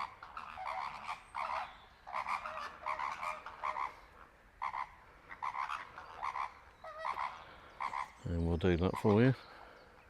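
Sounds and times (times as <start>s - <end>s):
flamingos calling: 0.0s - 8.2s, 8.8s - 9.4s.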